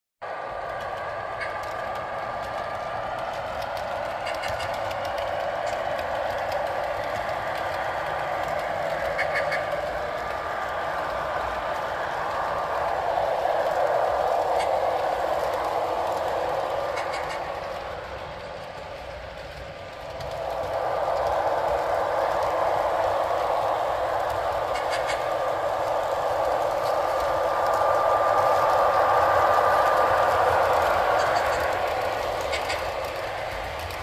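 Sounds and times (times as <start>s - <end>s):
model locomotive diesel engine sound: 0.2s - 34.0s.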